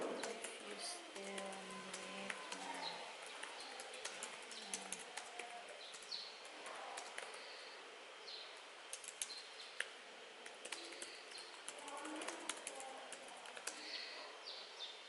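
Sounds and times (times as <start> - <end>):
laptop keyboard typing: 0.0 - 7.5, 8.9 - 14.0
faint background hiss: 0.0 - 15.0
small birds chirping: 0.0 - 15.0.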